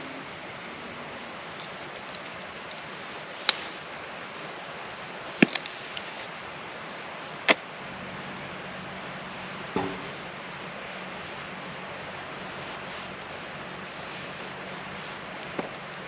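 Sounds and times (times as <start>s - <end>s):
outdoor hiss: 0.0s - 16.0s.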